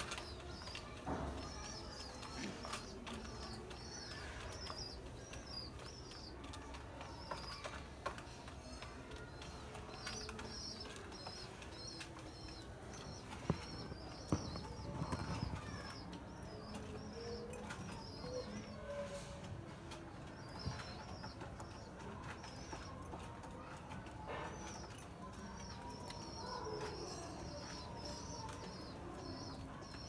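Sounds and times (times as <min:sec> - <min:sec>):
beaks pecking at grain: 0:00.0 - 0:30.0
small birds chirping: 0:00.0 - 0:30.0.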